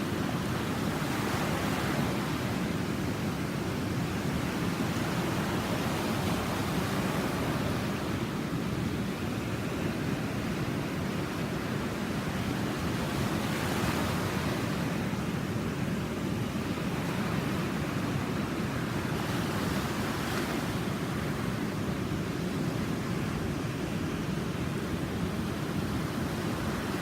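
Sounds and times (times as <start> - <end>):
ocean surf wash and rumble: 0.0 - 27.0
waves crashing: 0.0 - 27.0.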